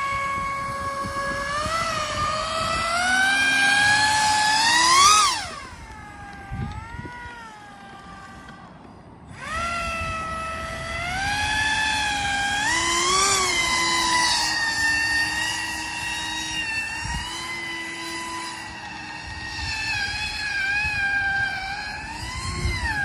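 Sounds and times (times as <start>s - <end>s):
airboat motor and propeller whine: 0.0s - 23.0s.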